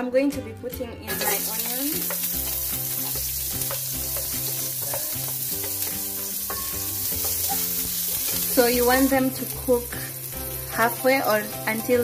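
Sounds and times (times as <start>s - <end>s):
music track: 0.2s - 12.0s
onions sizzling in hot oil: 1.1s - 12.0s.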